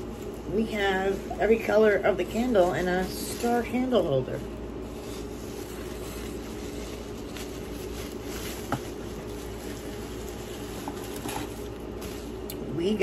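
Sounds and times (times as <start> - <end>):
plastic bag rustling: 0.0 - 13.0
steady low hum: 0.0 - 13.0.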